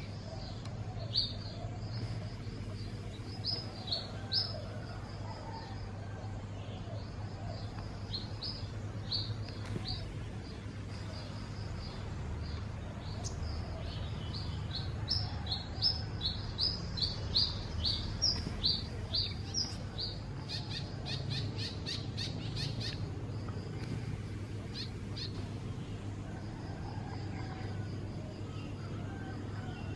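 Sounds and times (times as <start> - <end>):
songbird chirping: 0.0 - 29.9
steady low hum: 0.0 - 29.9.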